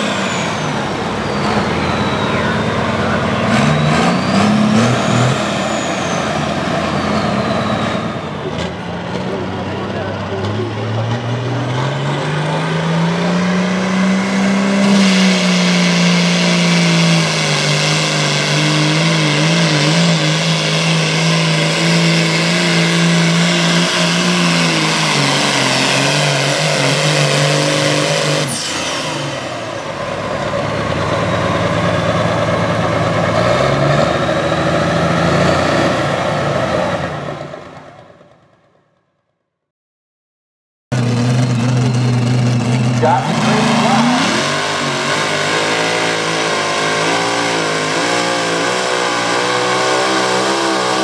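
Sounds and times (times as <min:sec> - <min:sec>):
diesel tractor engine at full throttle: 0:00.0 - 0:38.8, 0:40.9 - 0:51.0.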